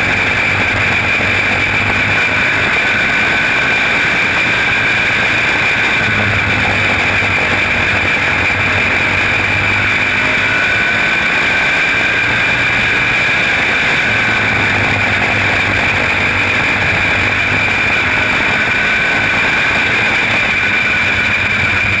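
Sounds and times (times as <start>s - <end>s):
high whine: 0.0s - 22.0s
race car engine running: 0.0s - 22.0s.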